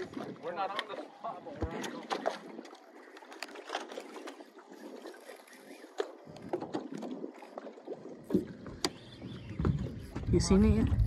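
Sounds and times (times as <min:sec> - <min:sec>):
waves lapping against boat hull: 0:00.0 - 0:11.0.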